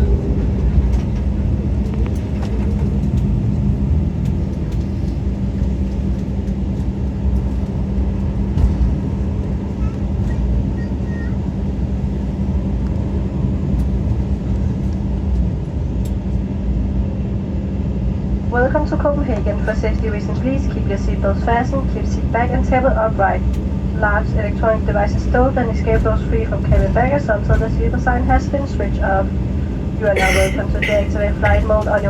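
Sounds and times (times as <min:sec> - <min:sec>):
airliner engine and rolling rumble: 0:00.0 - 0:32.0
constant low hum: 0:00.0 - 0:32.0.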